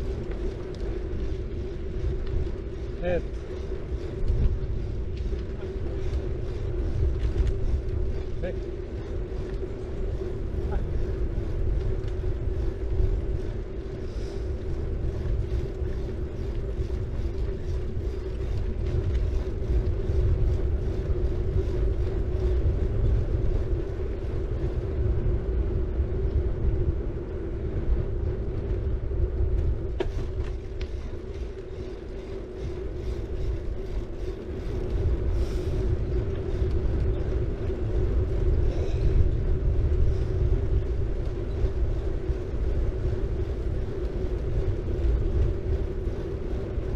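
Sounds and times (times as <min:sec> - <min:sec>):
bike tyre and drivetrain noise: 0:00.0 - 0:46.9
wind rumble on microphone: 0:00.0 - 0:46.9.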